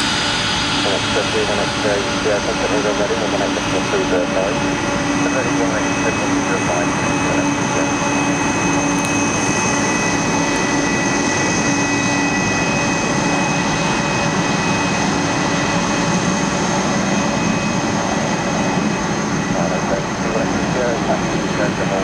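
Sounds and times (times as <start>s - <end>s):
high steady whine tones: 0.0s - 22.0s
jet engines running: 0.0s - 22.0s.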